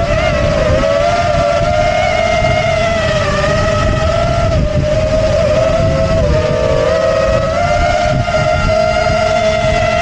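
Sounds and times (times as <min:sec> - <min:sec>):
drone motors whining: 0:00.0 - 0:10.0
wind rumble on microphone: 0:00.0 - 0:10.0.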